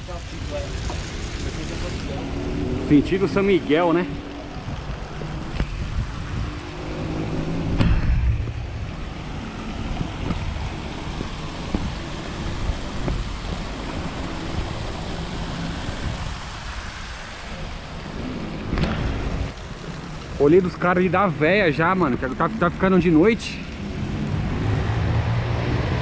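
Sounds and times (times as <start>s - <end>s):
moving vehicle rumble and wind: 0.0s - 26.0s.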